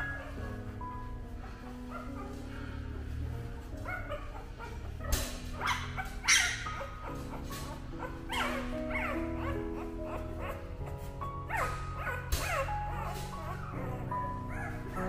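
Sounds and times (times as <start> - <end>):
background music with held notes: 0.0 - 15.0
puppies whimpering and squealing: 0.0 - 15.0.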